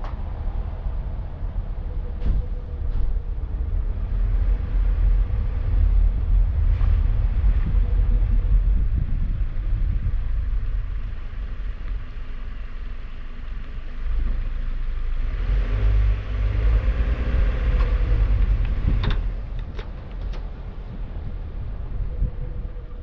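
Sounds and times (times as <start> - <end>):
car engine: 0.0 - 23.0
wind rumble on microphone: 0.0 - 23.0.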